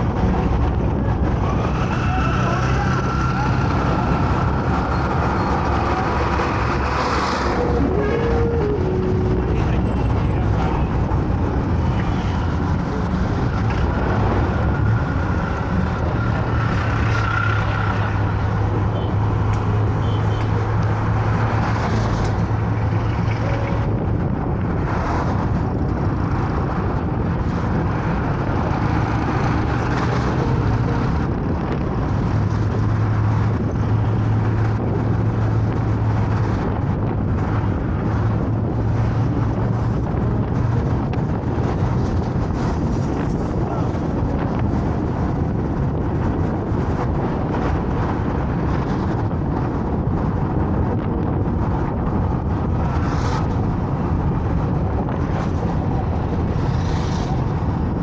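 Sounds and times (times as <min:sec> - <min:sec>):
car engine hum: 0:00.0 - 0:58.0
tyre and road noise: 0:00.0 - 0:58.0.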